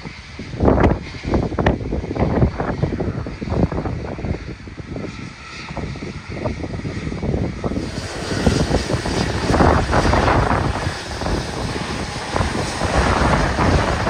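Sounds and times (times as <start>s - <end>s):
jet engines running: 0.0s - 14.0s
wind buffeting microphone: 0.0s - 14.0s.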